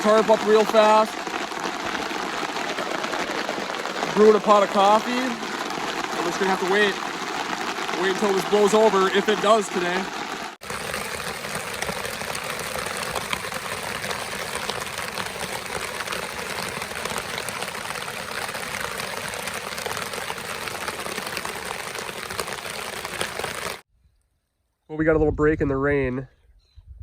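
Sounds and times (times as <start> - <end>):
heavy rain pouring: 0.0 - 23.8.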